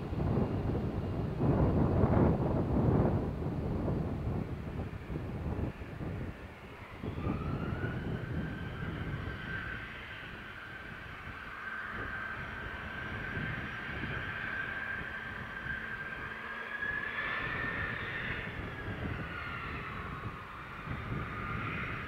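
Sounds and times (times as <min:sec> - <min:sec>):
high-pitched jet whine: 0:00.1 - 0:22.0.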